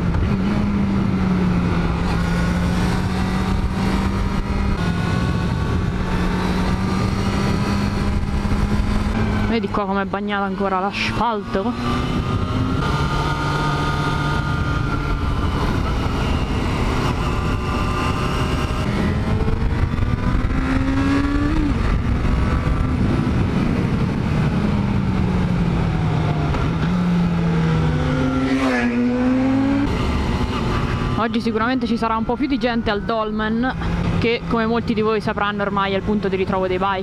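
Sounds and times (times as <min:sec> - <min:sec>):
motorcycle engine revving: 0:00.0 - 0:37.0
wind noise: 0:00.0 - 0:37.0.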